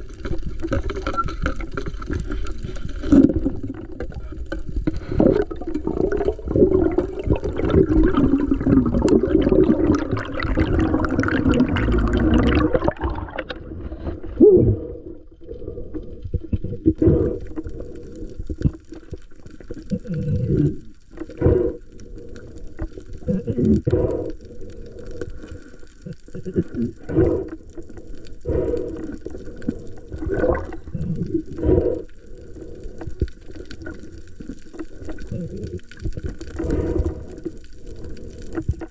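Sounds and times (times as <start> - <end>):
muffled underwater sloshing: 0.0 - 38.9.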